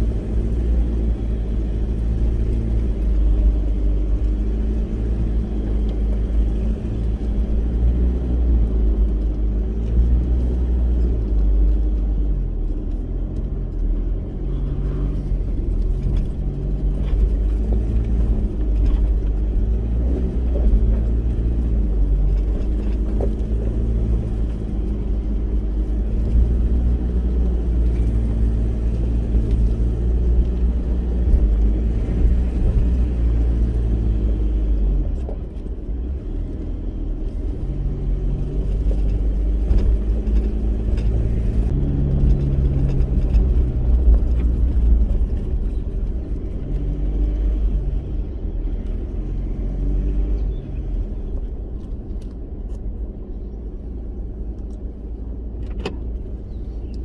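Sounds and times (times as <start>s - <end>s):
engine hum: 0.0s - 57.0s
vehicle driving on dirt track: 0.0s - 57.0s.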